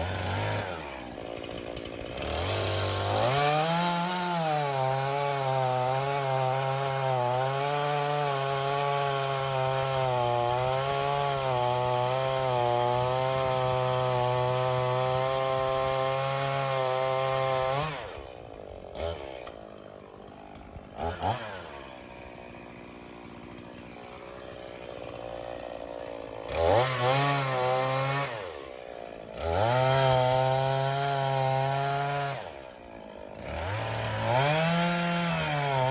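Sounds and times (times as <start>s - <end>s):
chainsaw cutting log: 0.0s - 35.9s.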